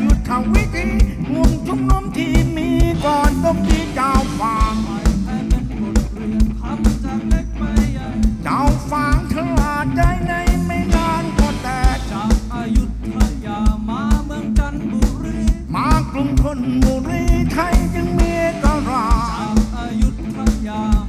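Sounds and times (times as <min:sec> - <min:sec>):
bass line: 0:00.0 - 0:21.0
steady drum beat: 0:00.0 - 0:21.0.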